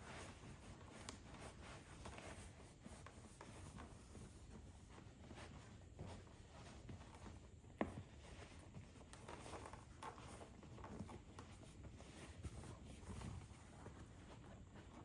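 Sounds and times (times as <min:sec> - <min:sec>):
rubbing and rustling of leather: 0:00.0 - 0:15.0.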